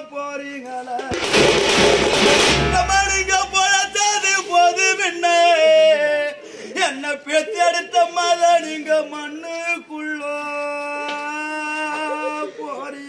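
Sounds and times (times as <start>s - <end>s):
man singing a lament: 0.0s - 1.2s, 2.7s - 13.0s.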